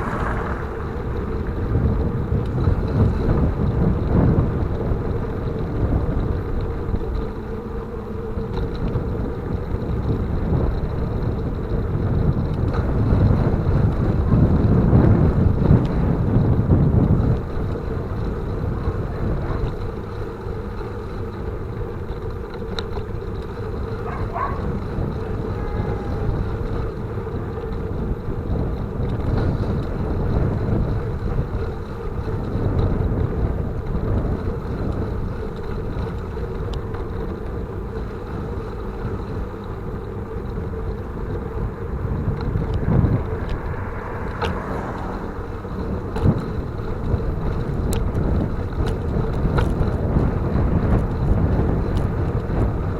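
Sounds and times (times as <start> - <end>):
bicycle road rumble: 0.0 - 52.9
wind buffeting microphone: 0.0 - 52.9.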